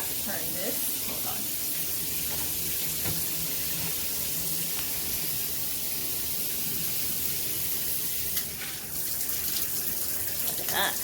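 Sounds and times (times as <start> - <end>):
shower spraying water: 0.0 - 11.0.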